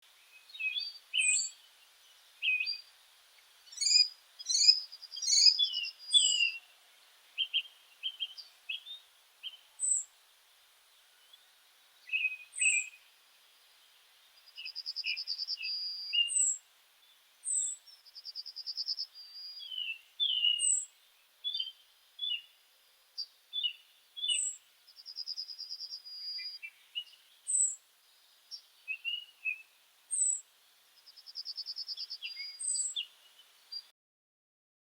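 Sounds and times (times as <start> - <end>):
small birds singing and chirping: 0.0 - 33.9.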